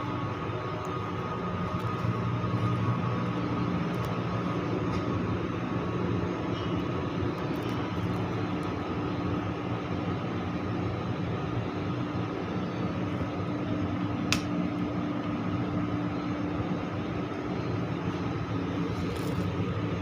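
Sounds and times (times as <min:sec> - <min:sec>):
fan and motor hum: 0:00.0 - 0:20.0.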